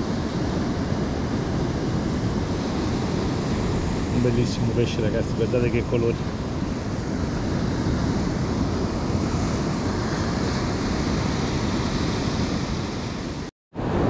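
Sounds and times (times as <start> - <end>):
surf rushing on a beach: 0.0 - 14.0
wind on the microphone: 0.0 - 14.0.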